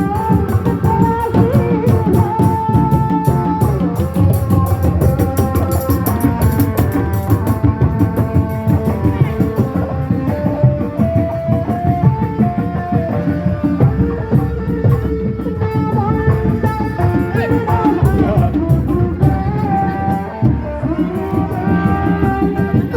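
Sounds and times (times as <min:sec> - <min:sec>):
hand drums beating: 0:00.0 - 0:22.9.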